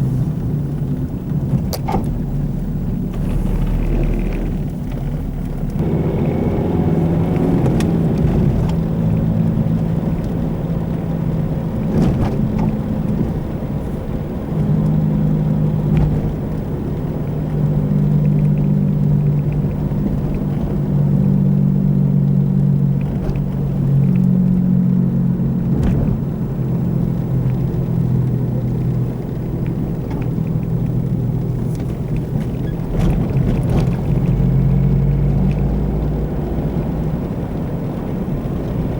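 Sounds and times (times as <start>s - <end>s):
road noise: 0.0s - 38.9s
wheel bearing drone: 3.0s - 38.9s.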